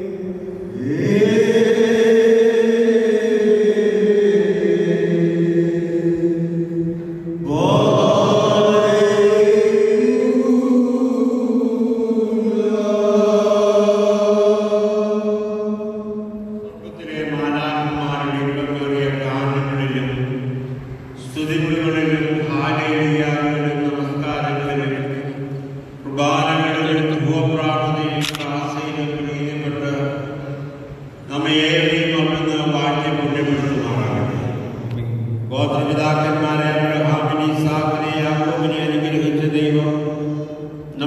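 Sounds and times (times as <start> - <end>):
male liturgical chanting: 0.0 - 41.0.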